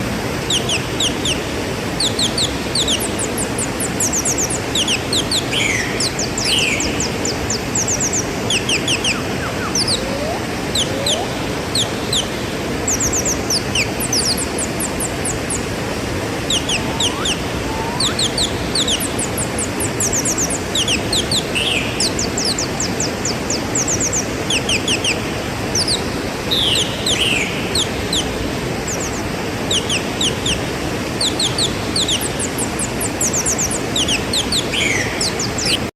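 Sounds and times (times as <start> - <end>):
small birds chirping: 0.0 - 35.9
waterfall rushing: 0.0 - 35.9
slurred bird calls and whistles: 0.4 - 15.8, 16.4 - 35.9.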